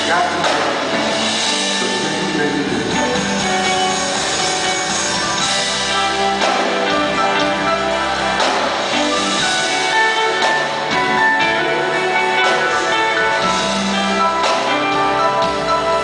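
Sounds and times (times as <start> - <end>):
drum kit with cymbals: 0.0 - 16.0
electric guitar lead: 0.0 - 16.0
keyboard: 0.0 - 16.0.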